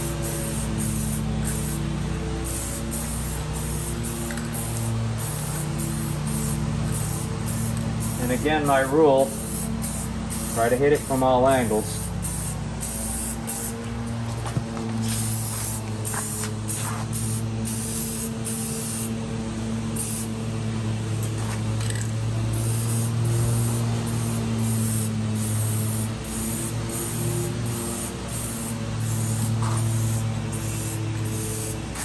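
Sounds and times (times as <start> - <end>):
spray can hissing bursts: 0.0 - 13.8, 15.0 - 19.2, 20.0 - 20.3, 22.5 - 32.0
steady low hum: 0.0 - 32.0.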